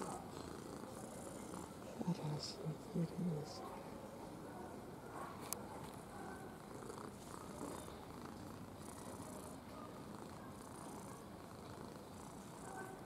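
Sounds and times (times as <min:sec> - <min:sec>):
cat purring: 0:00.0 - 0:03.6, 0:05.8 - 0:13.0.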